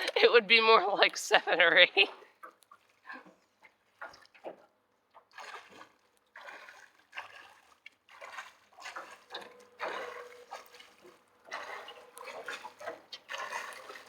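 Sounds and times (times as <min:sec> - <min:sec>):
swimmer splashing water: 0:00.0 - 0:14.0.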